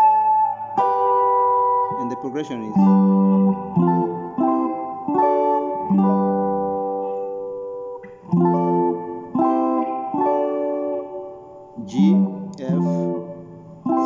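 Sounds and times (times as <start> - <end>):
guitar chords ringing: 0.0 - 14.0.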